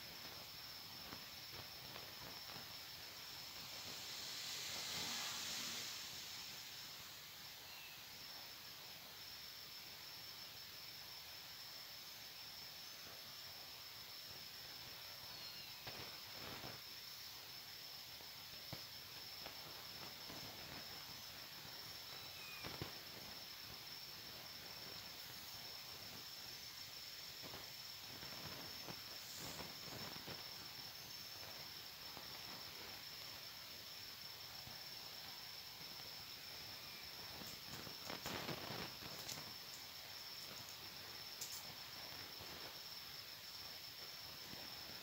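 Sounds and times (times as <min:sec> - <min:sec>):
crickets trilling: 0:00.0 - 0:45.0.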